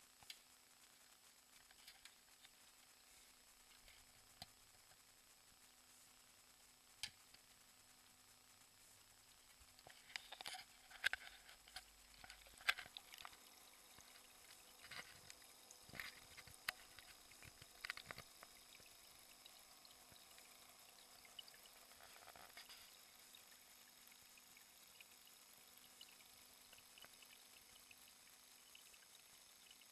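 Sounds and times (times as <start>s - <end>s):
aquarium water clicks and crackles: 0.0s - 29.9s
faint steady hum: 0.0s - 29.9s.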